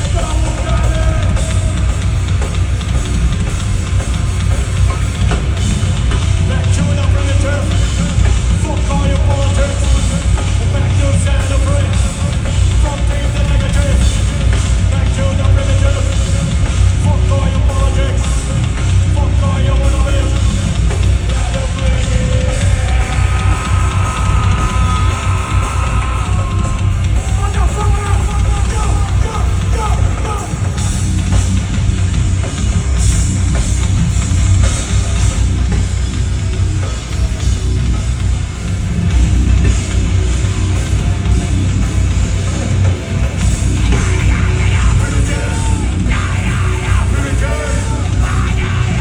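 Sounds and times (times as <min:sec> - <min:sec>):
heavy metal band playing live: 0:00.0 - 0:49.0
pounding drum kit: 0:00.0 - 0:49.0.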